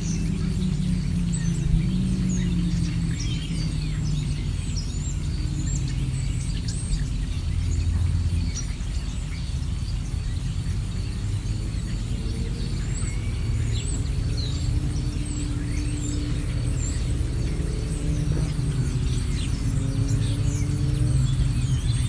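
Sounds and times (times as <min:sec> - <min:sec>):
low rumble: 0:00.0 - 0:22.0
small birds chirping: 0:00.0 - 0:22.0.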